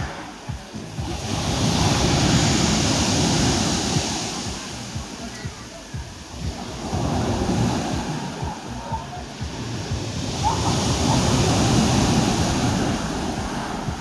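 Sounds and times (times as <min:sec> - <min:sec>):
sea waves washing onto shore: 0:00.0 - 0:14.0.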